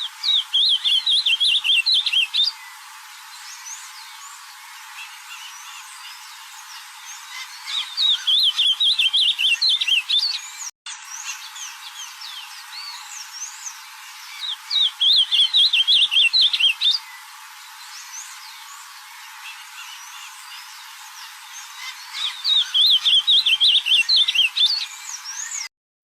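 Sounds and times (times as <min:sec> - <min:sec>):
bird warbling song: 0:00.0 - 0:25.7
faint bird chirps: 0:00.0 - 0:25.7.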